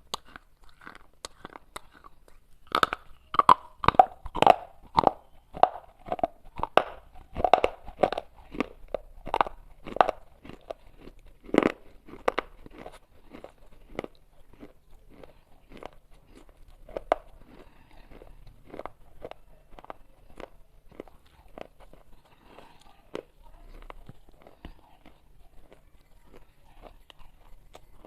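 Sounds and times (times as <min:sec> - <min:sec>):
clay pot being chewed: 0:00.0 - 0:28.0.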